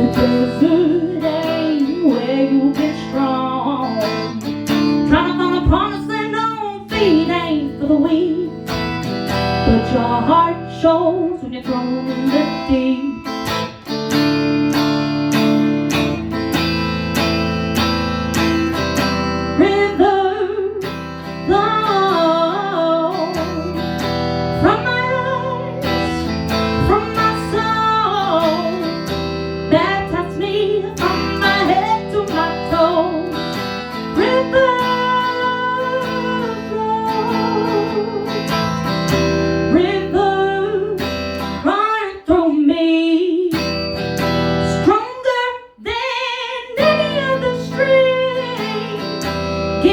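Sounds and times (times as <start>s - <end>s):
acoustic guitar strumming: 0.0s - 41.7s
woman singing: 0.0s - 49.9s.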